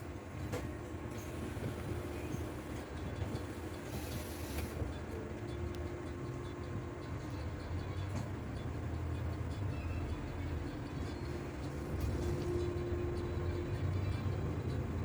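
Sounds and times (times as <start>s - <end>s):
city bus engine and tyres rumbling: 0.0s - 15.0s.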